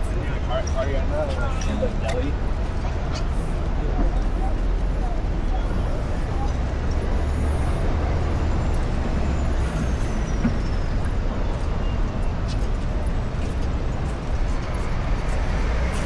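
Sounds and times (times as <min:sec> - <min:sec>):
rumble of passing traffic: 0:00.0 - 0:16.0.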